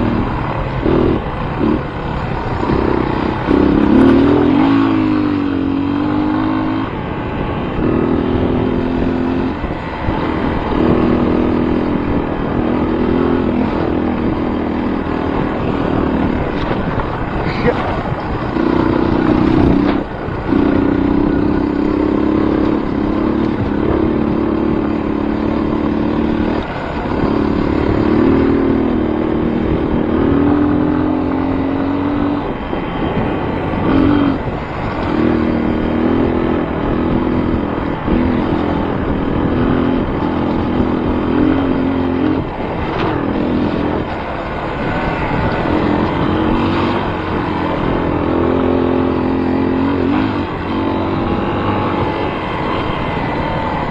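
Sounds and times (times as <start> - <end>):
vehicle engine revving: 0.0 - 53.9.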